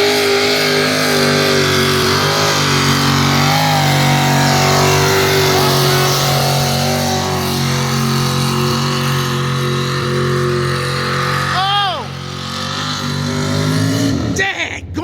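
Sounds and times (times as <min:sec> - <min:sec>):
tractor engine revving under load: 0:00.0 - 0:15.0.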